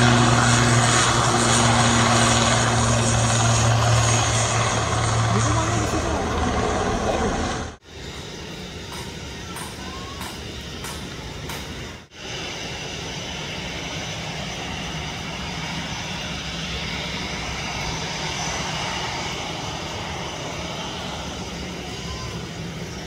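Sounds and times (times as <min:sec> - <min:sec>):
jet engines whining: 0:00.0 - 0:23.0.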